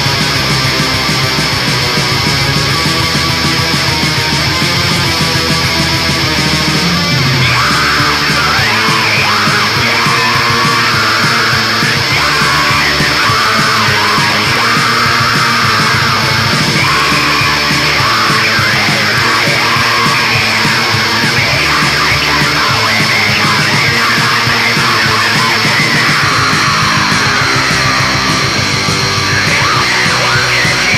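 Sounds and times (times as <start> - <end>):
distorted electric guitars and bass: 0.0 - 30.9
harsh yelled vocals: 0.0 - 30.9.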